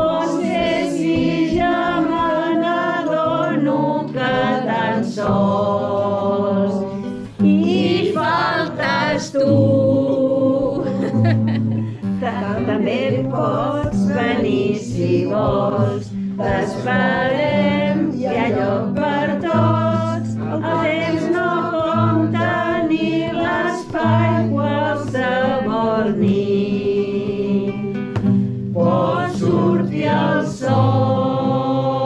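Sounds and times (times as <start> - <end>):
song with sung vocals: 0.0 - 32.0.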